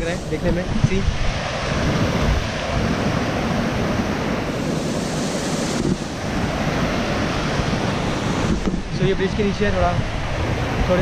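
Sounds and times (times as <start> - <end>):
stream rushing over boulders: 0.0 - 11.0
wind on microphone: 0.0 - 11.0.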